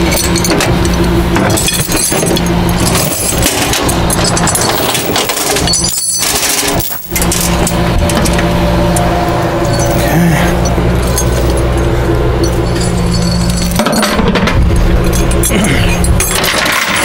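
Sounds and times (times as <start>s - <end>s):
metal chains clanking: 0.0s - 17.0s
truck engine idling: 0.0s - 17.0s.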